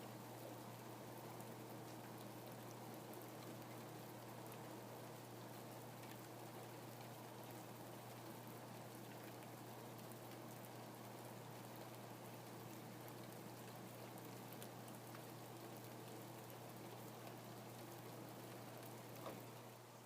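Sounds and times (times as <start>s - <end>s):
rain falling: 0.1s - 20.0s.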